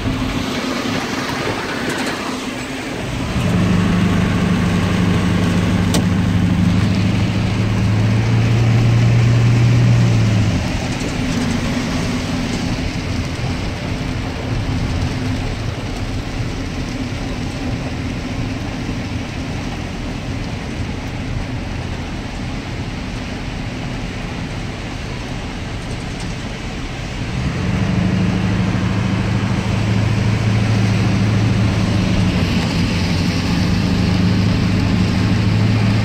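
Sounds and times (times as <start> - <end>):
heavy rain: 0.0 - 36.0
tyres on a wet road: 0.0 - 36.0
vehicle engine droning: 0.0 - 36.0.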